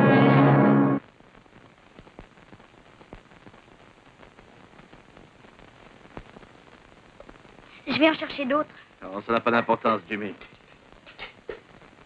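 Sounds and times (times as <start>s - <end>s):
soundtrack hiss: 0.0s - 12.0s.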